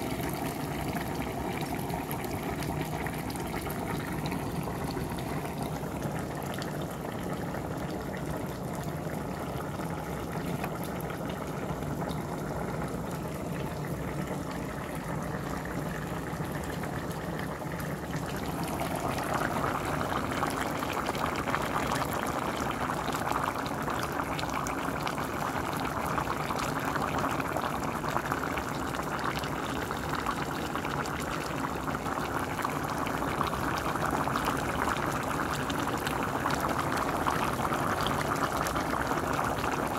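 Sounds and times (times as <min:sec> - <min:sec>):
pots boiling: 0:00.0 - 0:39.9.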